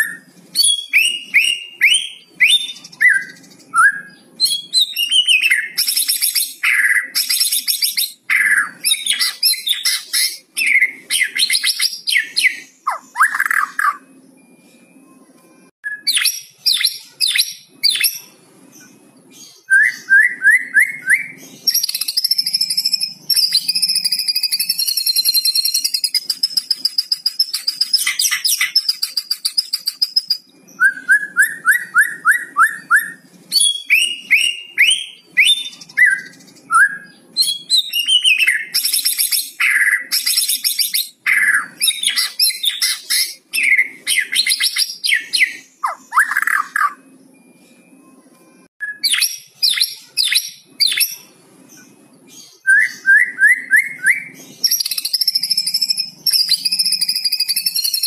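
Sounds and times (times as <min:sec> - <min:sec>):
bird singing with rattling trills: 0:00.0 - 0:14.3, 0:15.9 - 0:47.4, 0:48.9 - 0:58.0.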